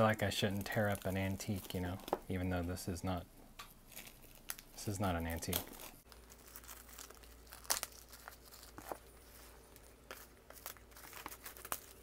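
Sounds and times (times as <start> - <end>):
plastic shrink-wrap crinkling: 0.0 - 2.6, 3.8 - 12.0.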